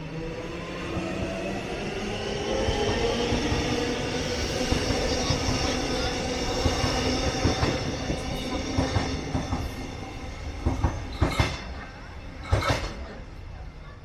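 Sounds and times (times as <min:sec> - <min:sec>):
electric train whine: 0:00.0 - 0:13.7.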